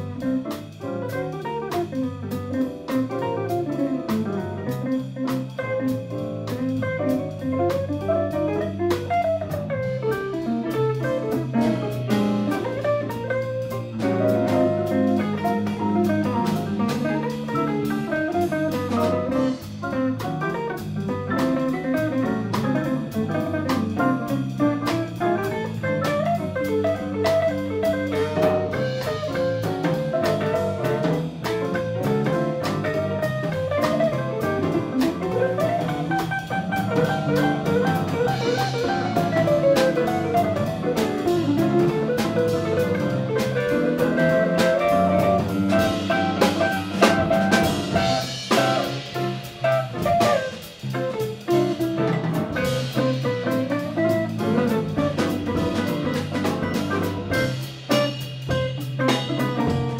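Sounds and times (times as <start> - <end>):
drum kit beat: 0.0 - 59.9
electric bass: 0.0 - 59.9
electric guitar melody: 0.0 - 59.9
piano: 0.0 - 59.9.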